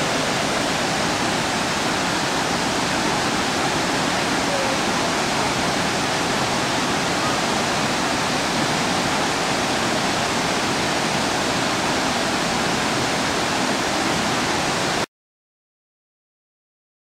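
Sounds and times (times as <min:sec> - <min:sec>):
waterfall roaring: 0:00.0 - 0:15.1.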